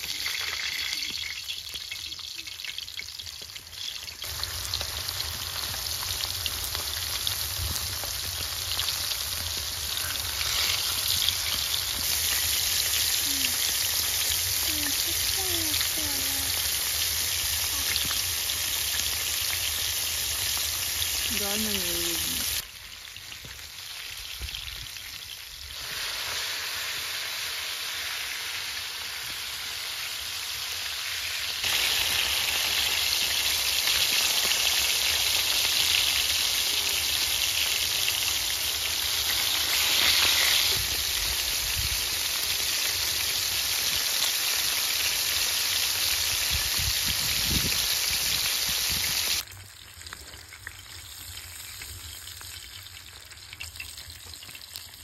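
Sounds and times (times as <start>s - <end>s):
fish sizzling in hot oil: 0.0s - 55.0s.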